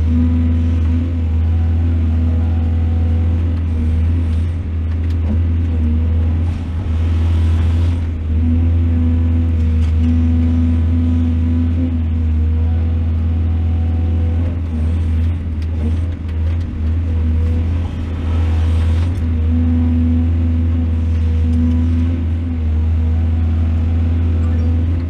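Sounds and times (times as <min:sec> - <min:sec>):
excavator engine droning: 0:00.0 - 0:25.0.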